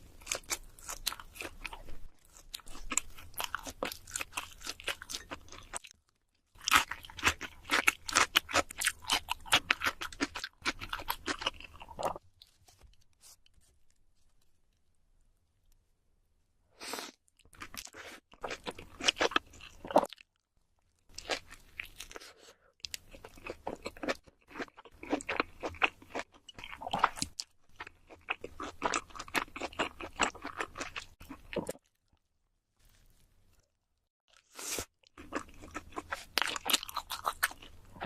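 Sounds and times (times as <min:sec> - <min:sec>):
chewing and crunching pizza crust: 0:00.0 - 0:14.9, 0:17.4 - 0:33.6, 0:34.3 - 0:38.0.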